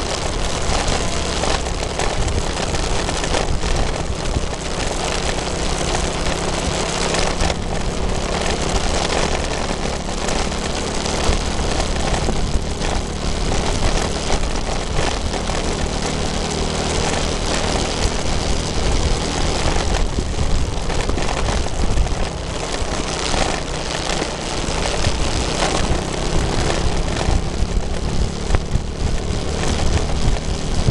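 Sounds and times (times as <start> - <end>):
low engine hum: 0.0 - 30.9
tyre noise on road: 0.0 - 30.9
wind rush on microphone: 0.0 - 30.9.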